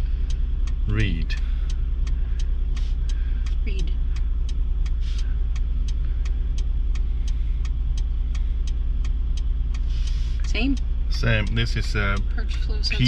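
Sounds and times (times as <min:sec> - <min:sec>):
sharp regular ticking: 0:00.0 - 0:13.0
truck engine idling: 0:00.0 - 0:13.0.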